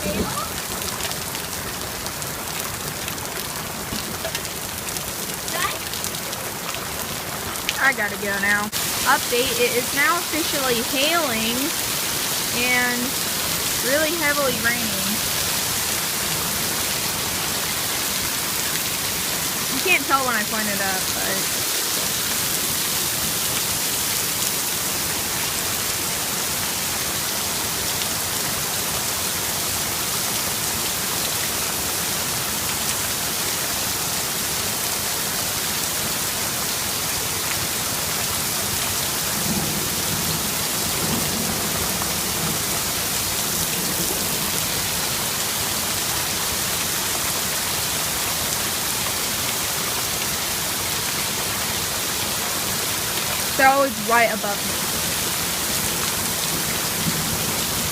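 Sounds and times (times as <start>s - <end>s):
heavy rain with hail: 0.0s - 57.9s.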